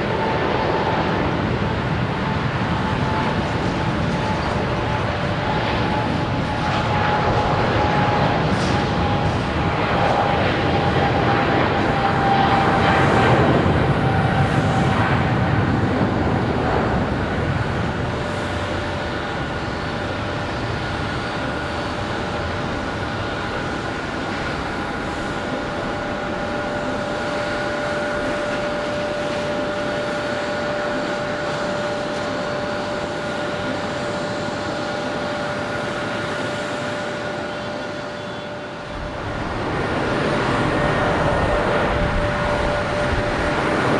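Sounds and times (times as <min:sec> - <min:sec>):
high engine whine: 0:00.0 - 0:43.9
jet engines roaring: 0:00.0 - 0:43.9.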